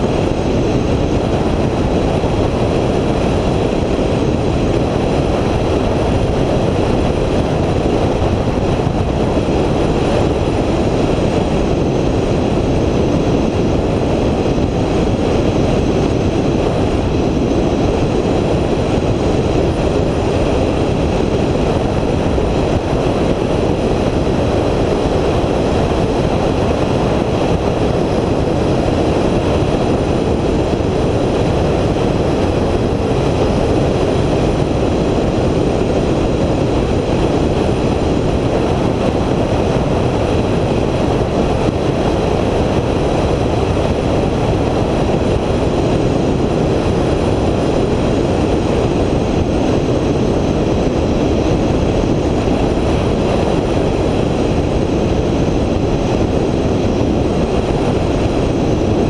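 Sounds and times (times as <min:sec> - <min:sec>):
vehicle tyre and wind noise: 0:00.0 - 0:59.0.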